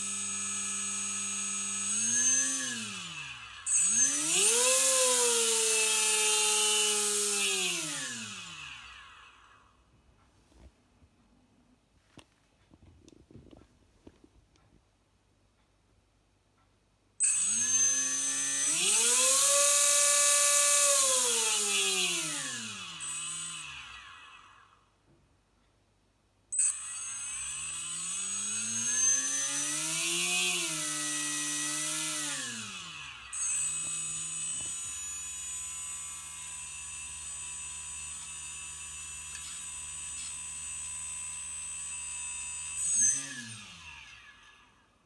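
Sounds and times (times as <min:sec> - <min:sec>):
small electric motor whining: 0:00.0 - 0:09.9, 0:17.2 - 0:25.0, 0:26.6 - 0:45.0.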